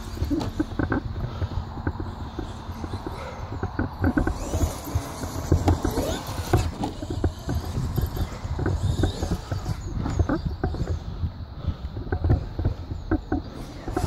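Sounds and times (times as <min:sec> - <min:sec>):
faint motor whine: 0:00.0 - 0:14.0
rc trucks knocking and rattling: 0:00.0 - 0:14.0.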